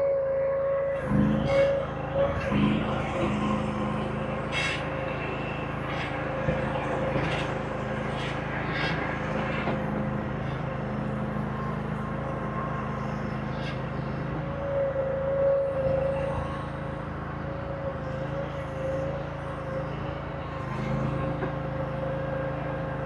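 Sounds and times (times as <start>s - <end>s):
diesel engine running: 0.0s - 23.0s
steady whine: 0.0s - 23.0s.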